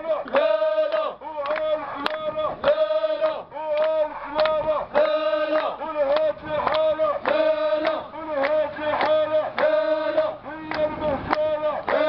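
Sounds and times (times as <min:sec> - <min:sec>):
men chanting slogans in unison: 0:00.0 - 0:12.0.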